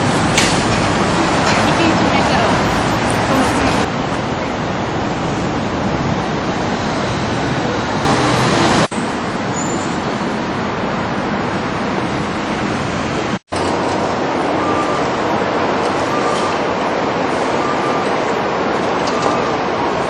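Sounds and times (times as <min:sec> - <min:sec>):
loud urban traffic noise: 0:00.0 - 0:20.0.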